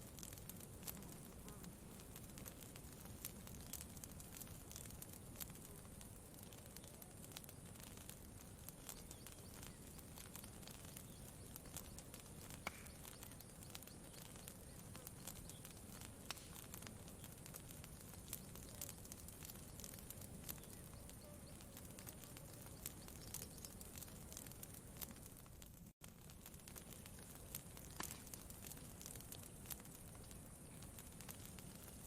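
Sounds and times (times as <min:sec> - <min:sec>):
campfire crackling faintly: 0:00.0 - 0:32.0.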